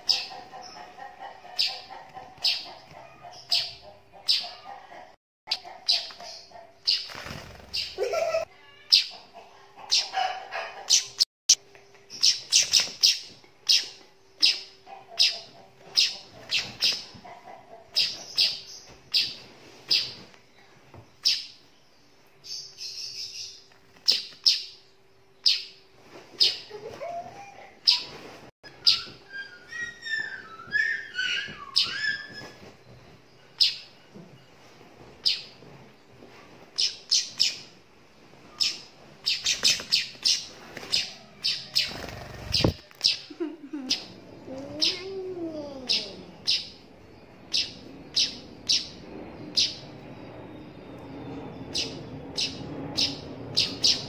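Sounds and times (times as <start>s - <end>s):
fledgling bird chirping: 0.0s - 11.3s, 11.9s - 35.6s, 36.8s - 37.8s, 38.4s - 54.0s.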